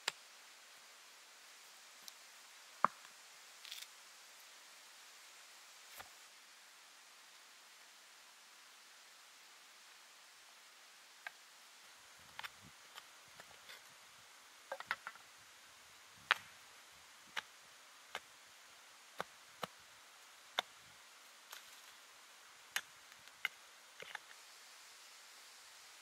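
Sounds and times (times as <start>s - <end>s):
faint hiss: 0.0s - 26.0s.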